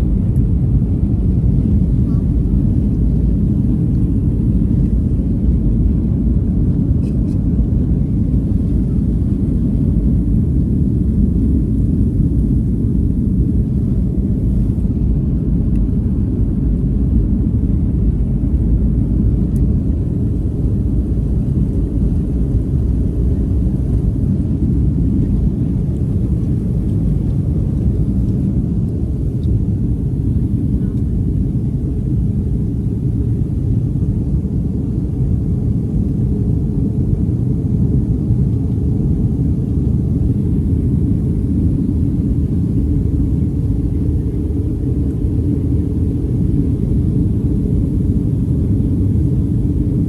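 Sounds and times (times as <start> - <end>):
jet engines rumbling in cabin: 0.0 - 50.0.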